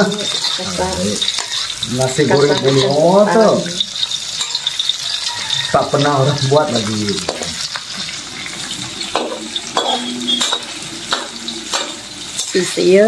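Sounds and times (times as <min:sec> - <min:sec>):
metal spatula scraping a wok: 0:00.0 - 0:12.7
food sizzling in oil: 0:00.0 - 0:13.0.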